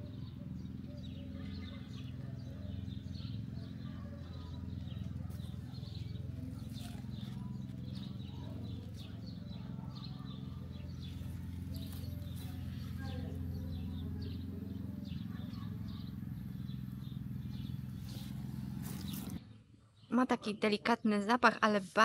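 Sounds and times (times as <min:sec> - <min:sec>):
low mechanical drone: 0:00.0 - 0:19.5
small birds chirping: 0:00.0 - 0:20.7.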